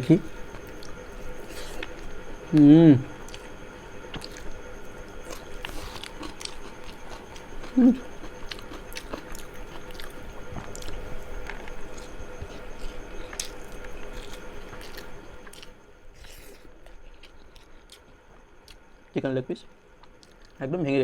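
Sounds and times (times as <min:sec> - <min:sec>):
person chewing food: 0:00.0 - 0:19.1, 0:19.9 - 0:20.6.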